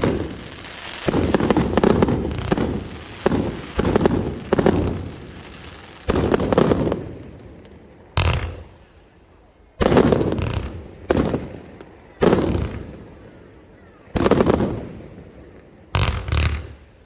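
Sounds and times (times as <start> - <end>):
fireworks bursting with crackles: 0.0 - 9.2, 9.8 - 17.0.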